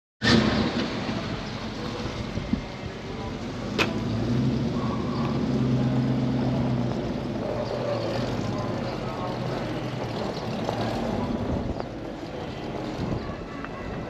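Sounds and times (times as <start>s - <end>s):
outdoor background noise: 0.2s - 14.0s
vehicle engine humming: 0.3s - 14.0s.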